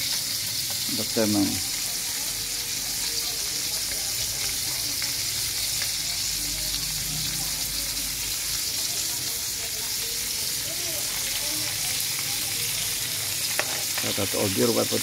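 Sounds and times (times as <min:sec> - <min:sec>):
fish frying in hot oil: 0:00.0 - 0:15.0
oil crackling and popping: 0:00.0 - 0:15.0.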